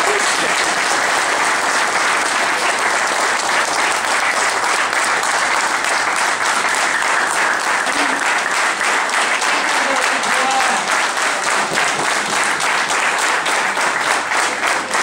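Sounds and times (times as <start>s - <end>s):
large audience applauding: 0.0s - 15.0s.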